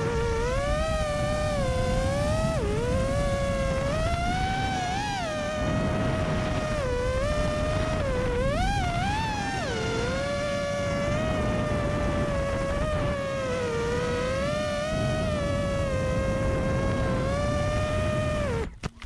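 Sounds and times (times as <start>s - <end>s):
low rumbling rush: 0.0s - 18.8s
drone motors whining: 0.0s - 19.0s.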